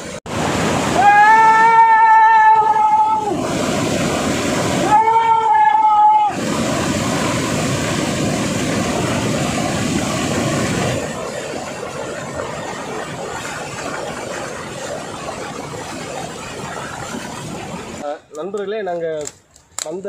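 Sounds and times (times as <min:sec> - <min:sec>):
waterfall rushing and splashing: 0:00.0 - 0:18.0.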